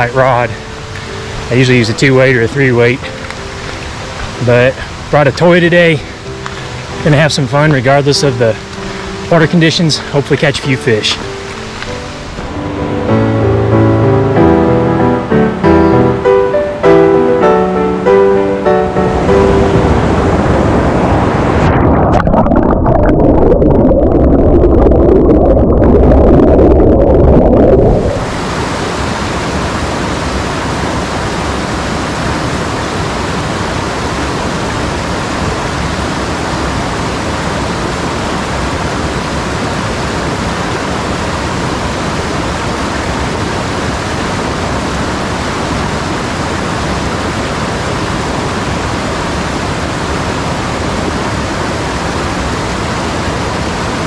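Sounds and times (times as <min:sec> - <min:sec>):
water tumbling over rocky cascades: 0:00.0 - 0:12.6, 0:19.2 - 0:54.0
stream rushing heard underwater: 0:00.0 - 0:54.0.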